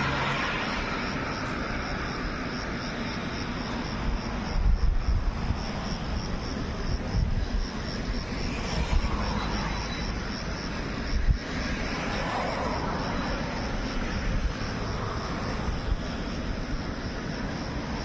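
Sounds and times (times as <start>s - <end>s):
train rumbling on tracks: 0.0s - 18.0s
wind buffeting microphone: 0.0s - 18.0s.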